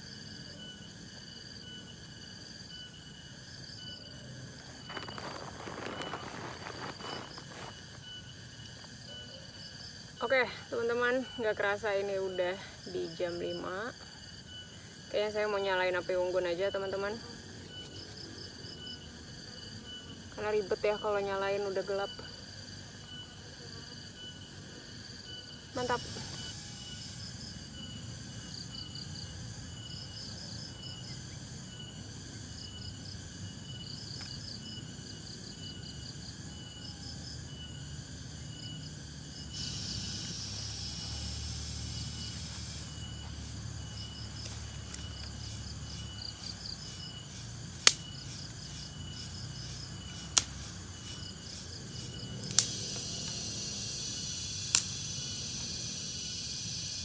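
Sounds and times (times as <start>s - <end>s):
high buzzing insect chorus: 0.0s - 57.0s
insects chirping in high pulses: 0.0s - 57.0s.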